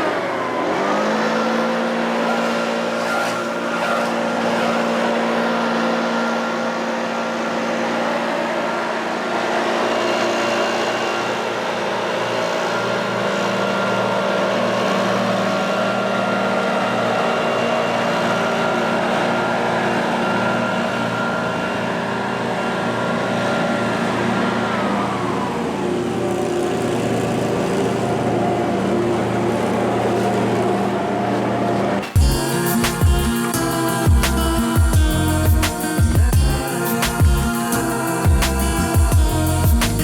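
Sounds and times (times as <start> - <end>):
engine running: 0.0 - 40.0
engine whine: 0.0 - 40.0.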